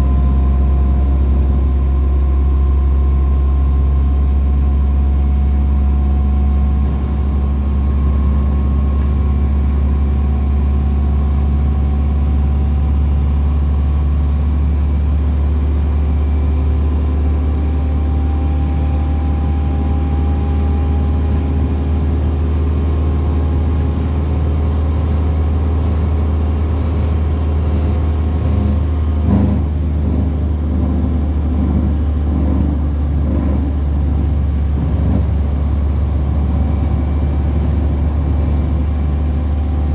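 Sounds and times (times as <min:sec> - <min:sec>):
bus engine drone with whining: 0:00.0 - 0:39.9.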